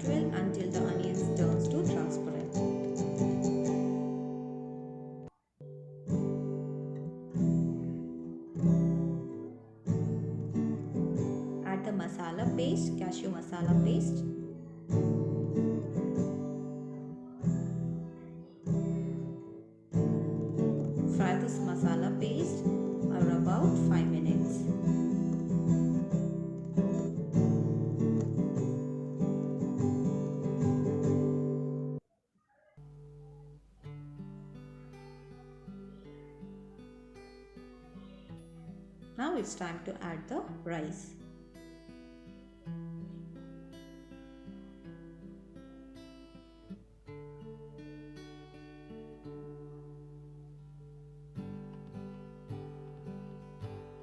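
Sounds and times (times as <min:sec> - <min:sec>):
strummed acoustic guitar music: 0:00.0 - 0:32.0, 0:32.8 - 0:54.0.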